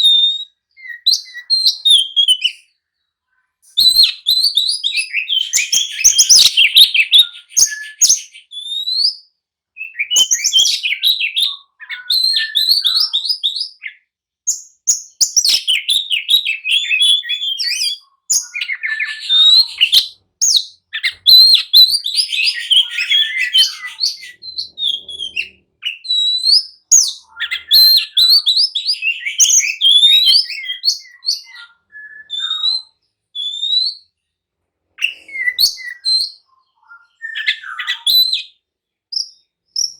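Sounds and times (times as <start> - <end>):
bird singing whistles and trills: 0.0 - 2.8, 3.7 - 34.2, 35.0 - 39.9.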